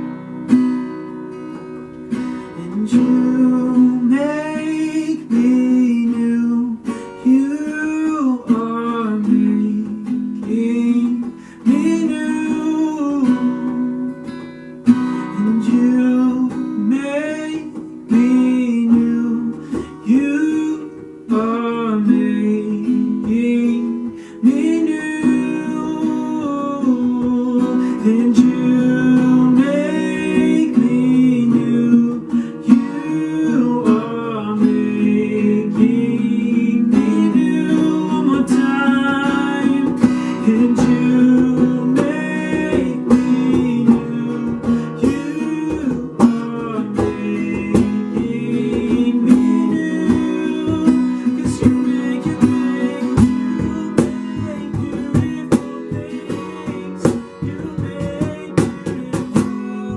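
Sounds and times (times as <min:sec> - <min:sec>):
strummed acoustic guitar: 0:00.0 - 0:59.9
person singing: 0:02.4 - 0:13.9, 0:15.0 - 0:59.9.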